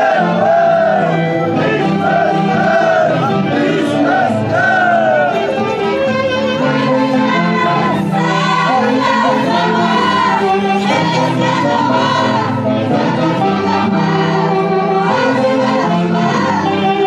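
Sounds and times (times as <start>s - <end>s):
festival orchestra playing: 0.0s - 17.0s
voices singing: 0.0s - 17.0s.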